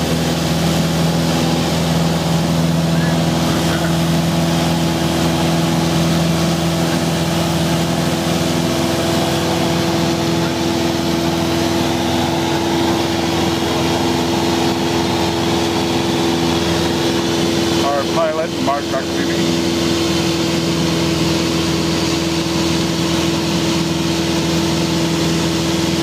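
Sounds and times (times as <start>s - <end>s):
light plane engine drone: 0.0s - 26.0s.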